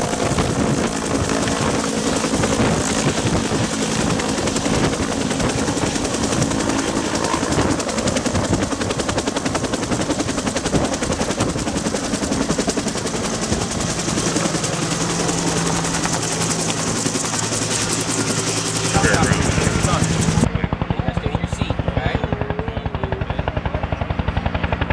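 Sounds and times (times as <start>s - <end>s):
helicopter hum: 0.0s - 24.9s
helicopter rotor beating: 0.0s - 24.9s.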